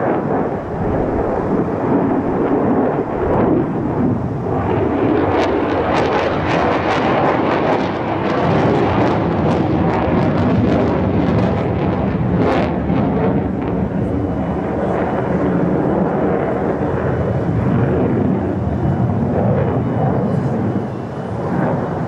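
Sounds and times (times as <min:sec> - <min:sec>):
jet engine roar with crackles: 0:00.0 - 0:22.0.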